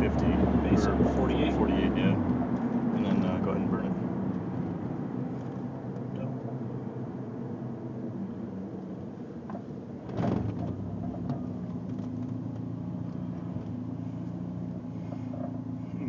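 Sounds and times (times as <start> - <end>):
car engine running while driving: 0.0 - 16.0.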